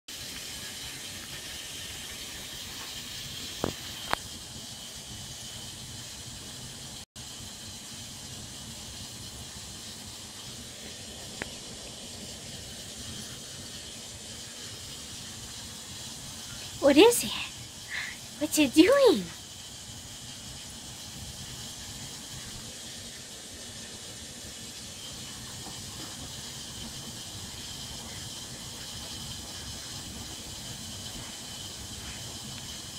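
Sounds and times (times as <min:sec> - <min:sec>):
washing machine running: 0:00.1 - 0:32.9.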